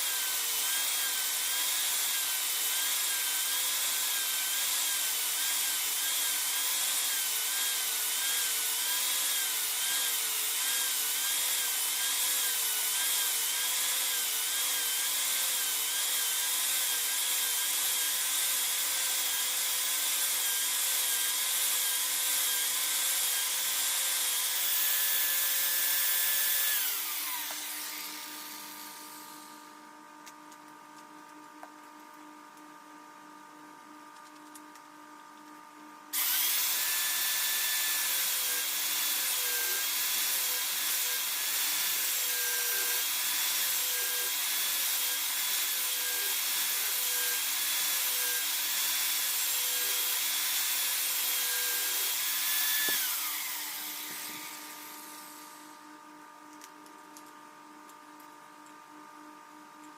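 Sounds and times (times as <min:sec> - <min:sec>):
electric power tool running: 0:00.0 - 0:29.7, 0:36.2 - 0:55.9
power tool winding down: 0:00.0 - 0:29.7, 0:36.2 - 0:55.8.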